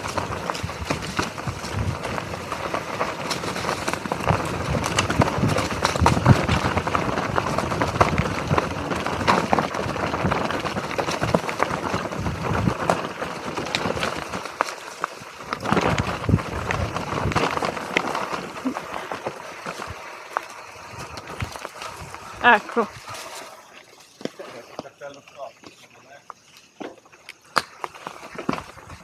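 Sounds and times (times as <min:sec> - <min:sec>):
bike chain and frame rattling: 0:00.0 - 0:23.5
bike tyres rolling over dirt: 0:00.0 - 0:29.0.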